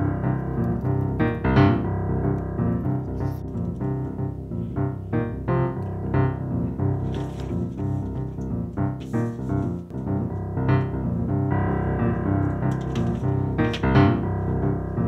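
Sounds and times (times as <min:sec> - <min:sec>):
piano film score music: 0:00.0 - 0:15.0.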